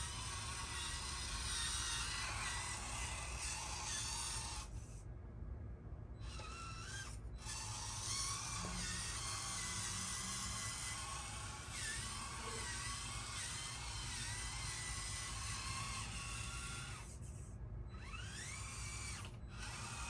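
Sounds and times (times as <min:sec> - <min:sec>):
toy truck motor whining: 0:00.0 - 0:05.0, 0:06.2 - 0:20.0.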